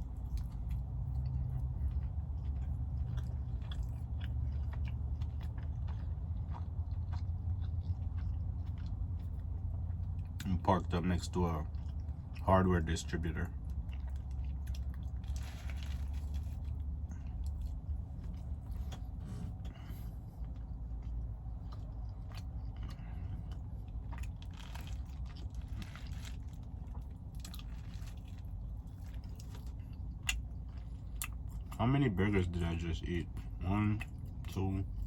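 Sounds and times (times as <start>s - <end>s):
person chewing: 0.0s - 32.5s, 33.1s - 35.0s
steady low hum: 0.0s - 35.0s.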